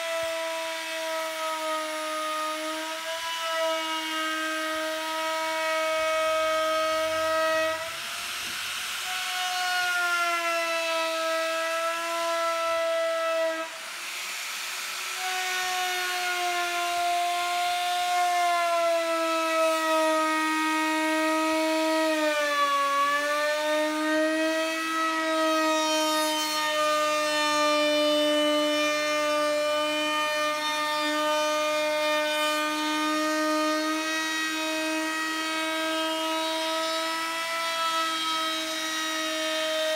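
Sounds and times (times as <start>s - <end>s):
electric sander on wood: 0.0s - 39.9s.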